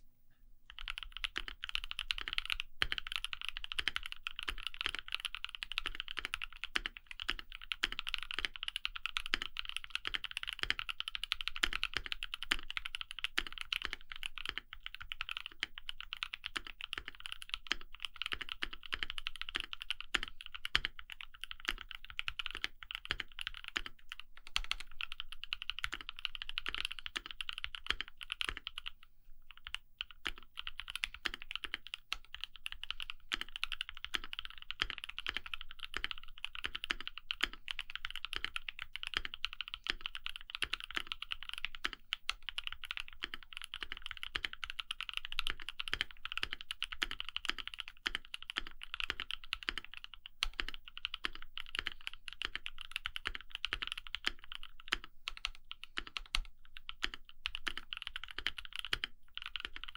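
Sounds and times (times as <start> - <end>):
mechanical keyboard typing: 0.7 - 59.9.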